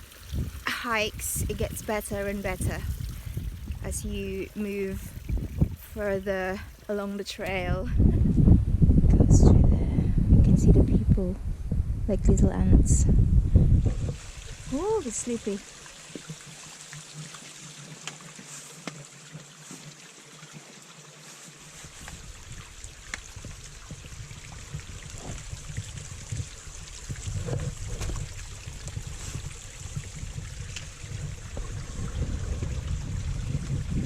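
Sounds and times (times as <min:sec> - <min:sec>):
wind buffeting microphone: 0:00.0 - 0:15.6, 0:21.8 - 0:34.0
wind hiss: 0:00.0 - 0:20.6, 0:21.2 - 0:34.0.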